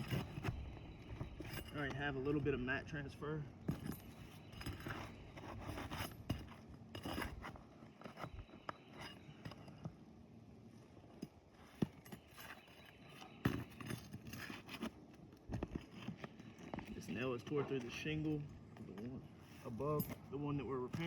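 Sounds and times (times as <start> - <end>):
metallic clinks and scrapes: 0.0 - 2.7, 3.6 - 9.9, 11.0 - 15.0, 15.6 - 21.0.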